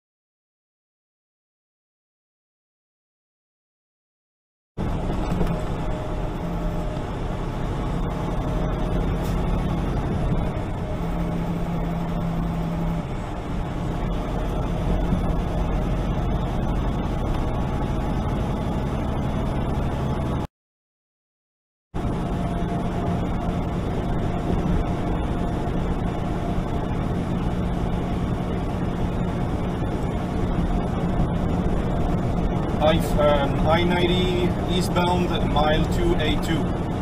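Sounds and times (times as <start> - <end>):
truck diesel engine drone: 4.8 - 20.5, 22.0 - 37.0
tyre noise on highway: 4.8 - 20.5, 22.0 - 37.0.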